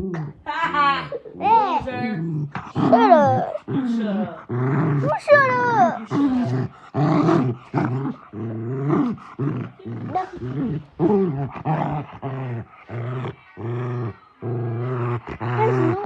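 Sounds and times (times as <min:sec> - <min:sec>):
dog play-growling: 0:00.0 - 0:00.8, 0:01.4 - 0:16.0.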